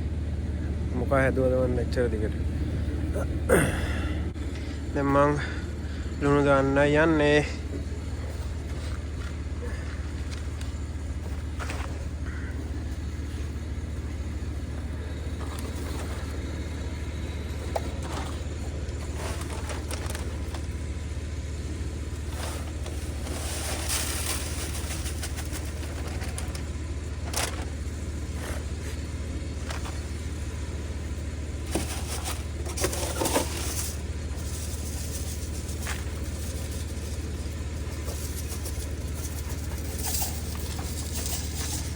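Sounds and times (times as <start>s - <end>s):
vehicle engine idling: 0.0s - 41.9s
scrapes and crunches: 7.5s - 41.9s.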